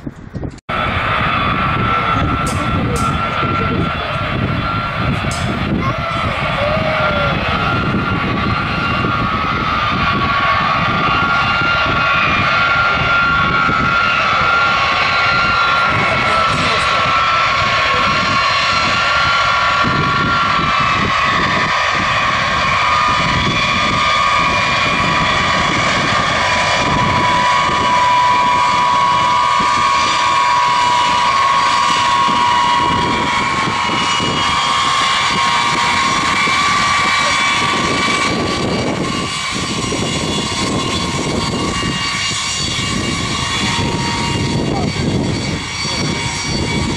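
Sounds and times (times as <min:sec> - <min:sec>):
jet engines roaring with whine: 0:00.0 - 0:46.9.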